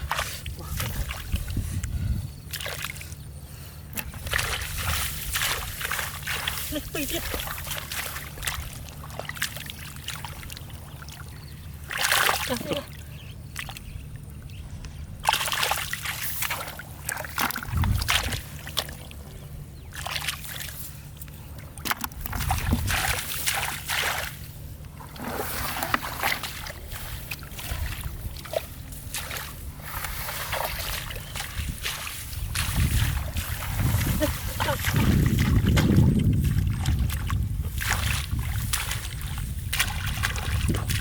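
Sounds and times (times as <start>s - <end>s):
low hum: 0.0s - 41.0s
water splashing and sloshing: 0.0s - 41.0s.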